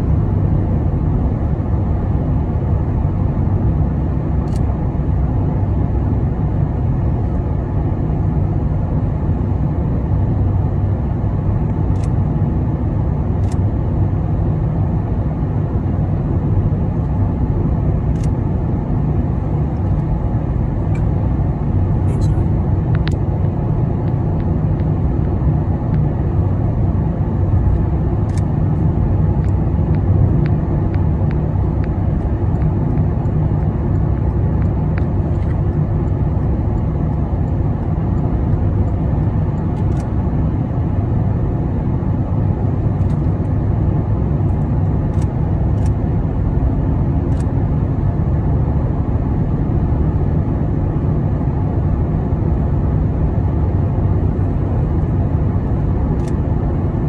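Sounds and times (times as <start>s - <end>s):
road and engine rumble in car: 0.0s - 57.0s.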